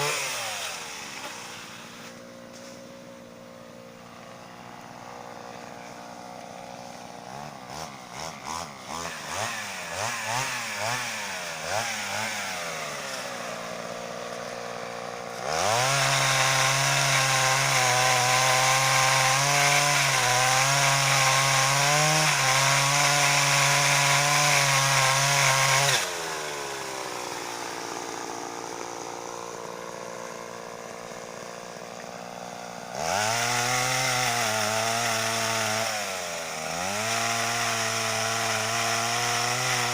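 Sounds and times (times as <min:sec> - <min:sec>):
brushcutter engine revving: 0:00.0 - 0:39.9.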